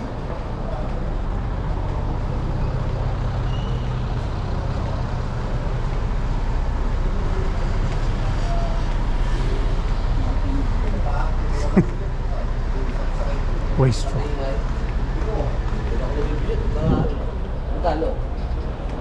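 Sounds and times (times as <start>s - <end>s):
street traffic: 0.0s - 19.0s
vehicle engine rumbling: 0.0s - 19.0s.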